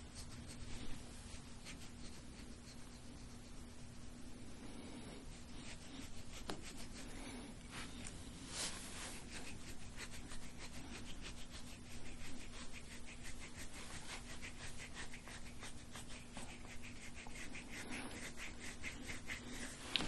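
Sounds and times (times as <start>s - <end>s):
scraping tool stroking skin: 0.0s - 7.3s, 8.0s - 20.0s.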